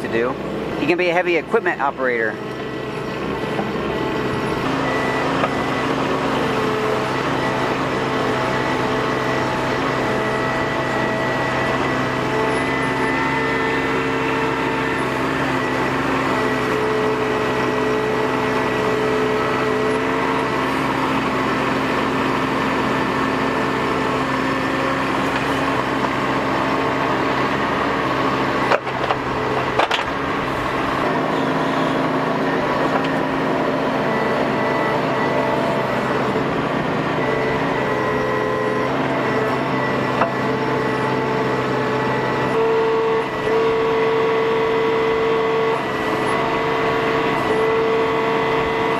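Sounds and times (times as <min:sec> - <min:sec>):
diesel engine running: 0:00.0 - 0:48.9
hydraulic whine: 0:00.0 - 0:48.9.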